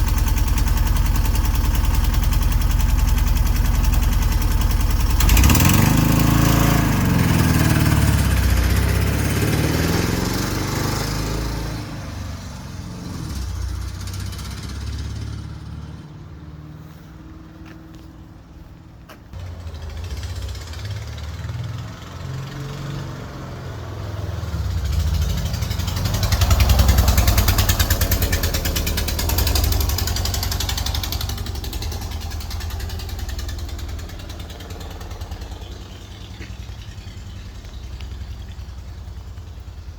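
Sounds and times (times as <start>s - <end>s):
van engine running with odd noise: 0.0s - 39.9s.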